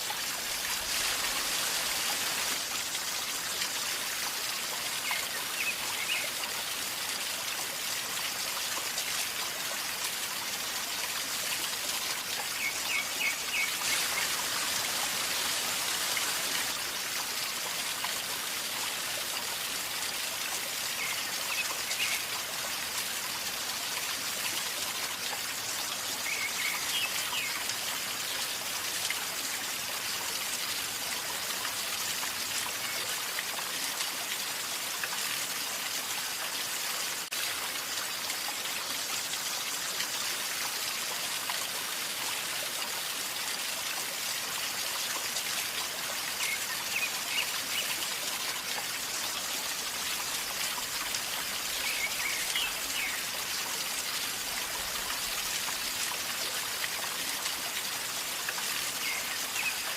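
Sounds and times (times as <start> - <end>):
river gurgling and trickling: 0.0 - 59.9.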